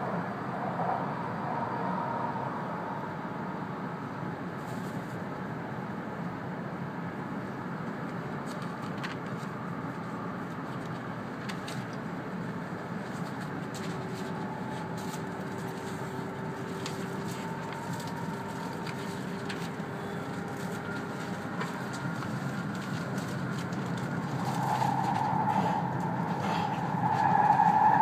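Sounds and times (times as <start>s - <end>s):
faint steady whine: 0.0s - 28.0s
train interior running noise: 0.0s - 28.0s.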